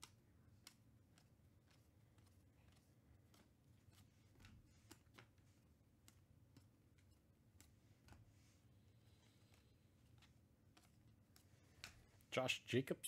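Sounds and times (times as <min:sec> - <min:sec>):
cards sliding and flipping: 0:00.0 - 0:12.3.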